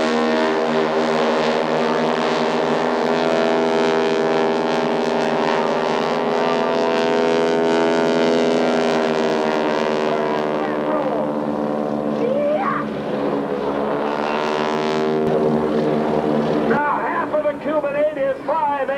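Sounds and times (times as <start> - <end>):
biplane engines droning: 0.0 - 18.9.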